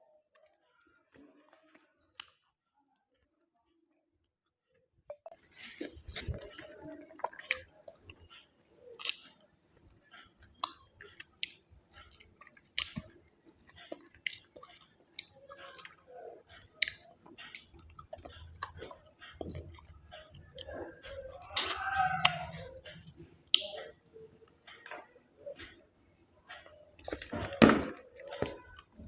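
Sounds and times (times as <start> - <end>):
person chewing food: 5.3 - 29.0.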